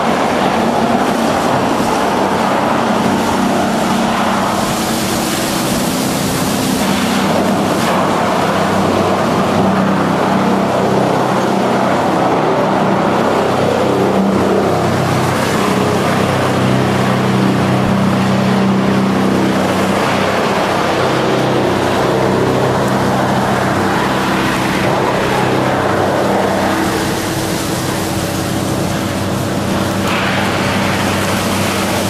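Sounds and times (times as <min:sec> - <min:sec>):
wood chipper running: 0:00.0 - 0:32.0.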